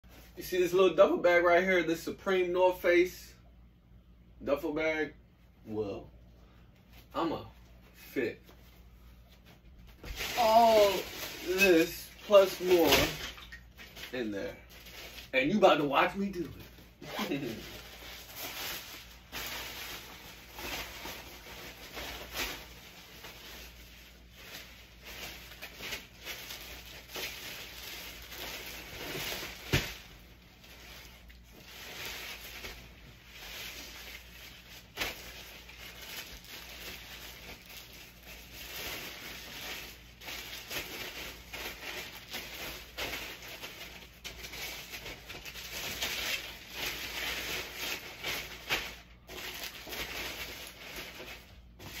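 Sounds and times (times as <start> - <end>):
clothes rustling in a fabric bag: 10.0 - 52.0.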